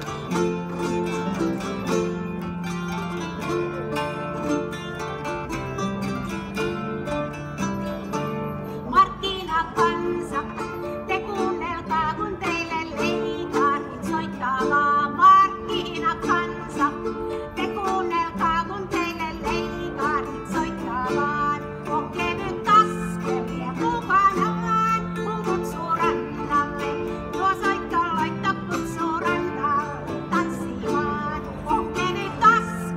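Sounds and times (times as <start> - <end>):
harp and lutes playing: 0.0 - 32.9.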